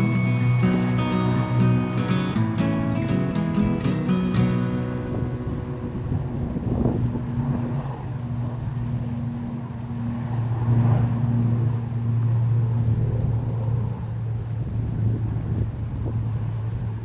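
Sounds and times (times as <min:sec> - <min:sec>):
motor droning: 0:00.0 - 0:17.0
wind rumble on microphone: 0:00.0 - 0:17.0.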